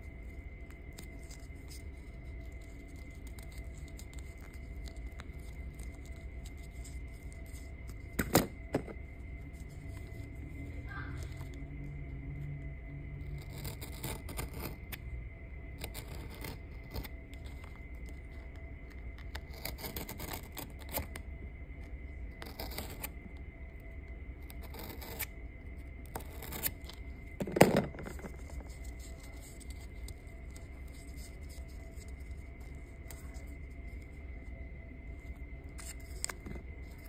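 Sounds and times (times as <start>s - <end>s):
faint steady high tone: 0.0s - 37.0s.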